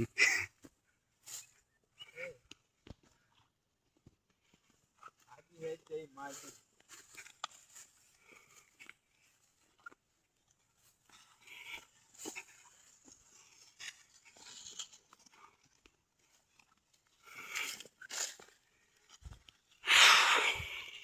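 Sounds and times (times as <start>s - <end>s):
faint crunches and rustles: 2.6s - 19.8s.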